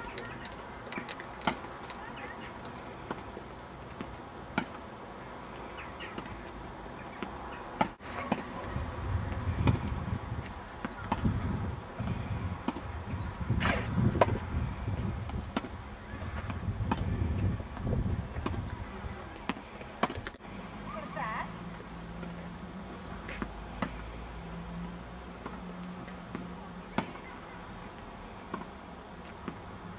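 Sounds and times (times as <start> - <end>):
rackets striking tennis balls: 0.0 - 17.4, 18.3 - 20.4, 23.2 - 24.0, 25.3 - 29.7
low rumbling noise: 0.0 - 27.0.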